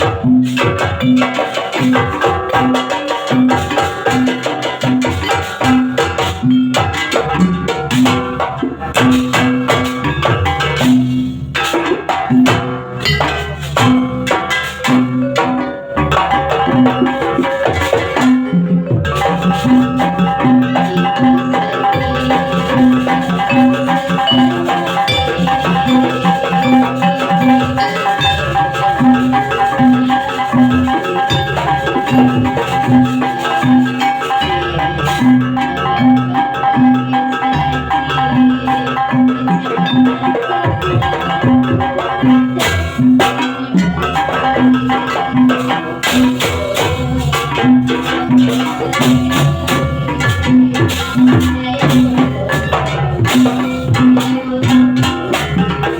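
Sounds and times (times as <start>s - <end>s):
drums: 0.0s - 55.9s
mallet-struck metallophones: 0.0s - 55.9s.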